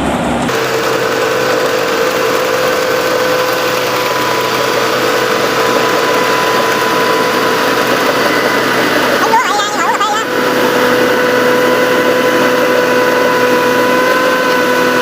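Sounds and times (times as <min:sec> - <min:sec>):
combine harvester engine droning: 0:00.0 - 0:15.0.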